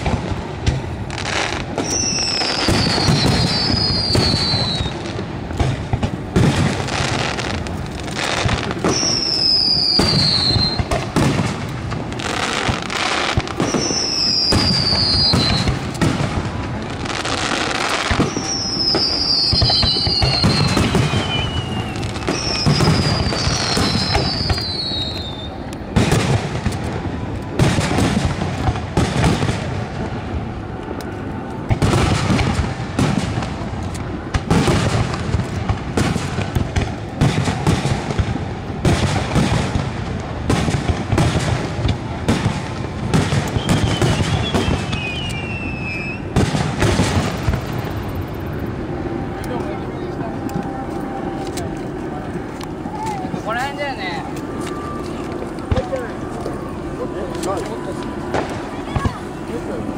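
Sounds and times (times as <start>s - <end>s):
falling firework whistles: 0.0s - 49.6s, 52.8s - 59.8s
firework booms and crackling: 0.0s - 59.9s.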